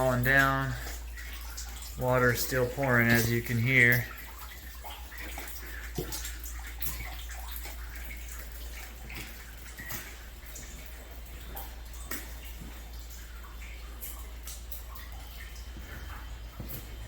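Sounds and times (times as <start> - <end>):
water pouring through ceiling: 0.0 - 17.0
water splashing and dripping: 0.0 - 17.0.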